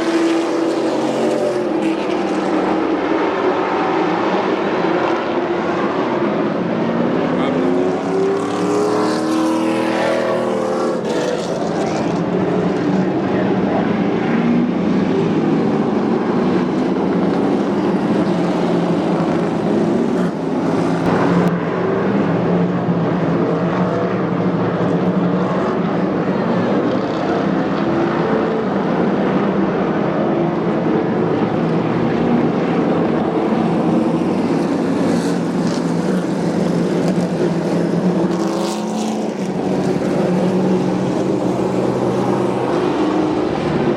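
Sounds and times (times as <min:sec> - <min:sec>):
race truck engines droning: 0:00.0 - 0:43.9.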